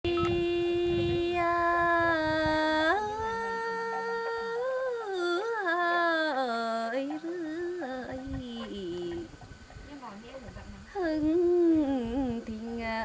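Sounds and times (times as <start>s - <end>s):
woman singing unaccompanied folk song: 0.0s - 9.4s, 10.8s - 13.0s.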